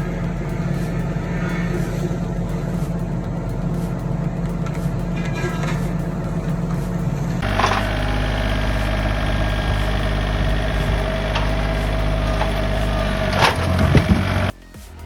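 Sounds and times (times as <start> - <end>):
engine running: 0.0 - 14.6.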